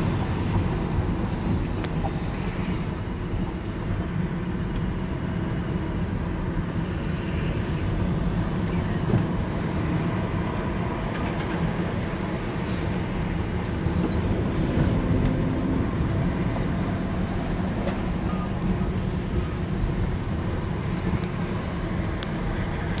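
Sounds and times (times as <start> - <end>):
car driving rumble: 0.0 - 23.0.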